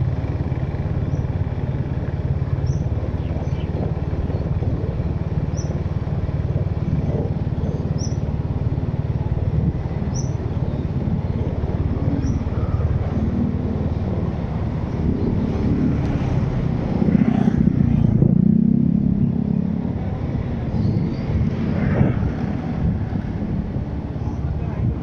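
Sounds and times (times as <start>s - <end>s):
road noise: 0.0s - 25.0s
vehicle engine rumble: 0.0s - 25.0s.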